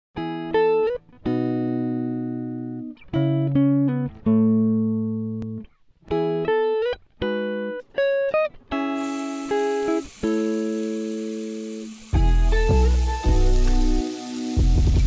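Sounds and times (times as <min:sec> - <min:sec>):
guitar chords ringing: 0:00.2 - 0:15.0.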